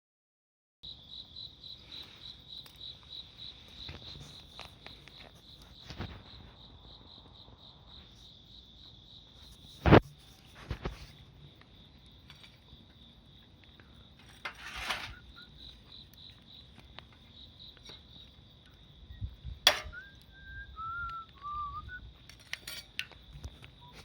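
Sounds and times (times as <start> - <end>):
crickets chirping: 0.8 - 24.0.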